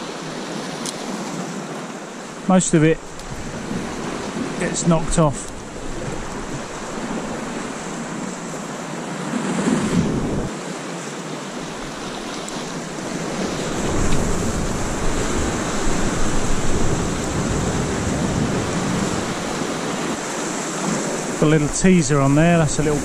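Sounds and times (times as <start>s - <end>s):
sea swell breaking over rocks: 2.4s - 23.0s.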